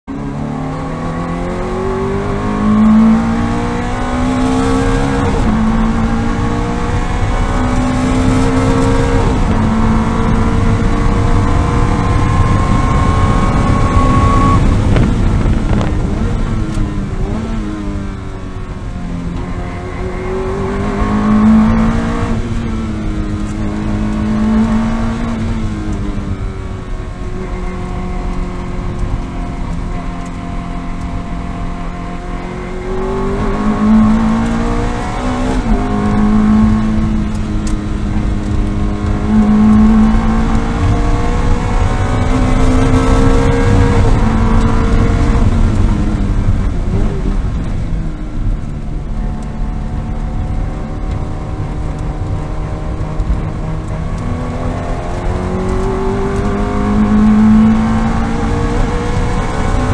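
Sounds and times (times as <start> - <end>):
car engine accelerating and shifting: 0.0 - 59.9
road and wind noise: 0.0 - 59.9.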